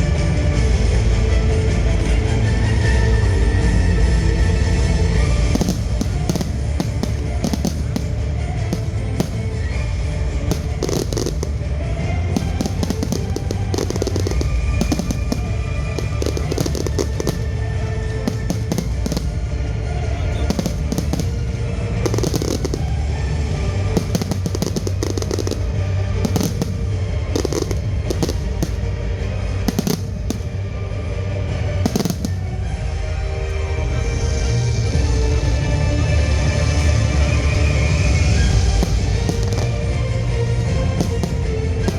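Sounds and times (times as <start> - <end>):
low rumble: 0.0 - 41.9
music playing: 0.0 - 41.9
fireworks cracking and banging: 2.8 - 41.9.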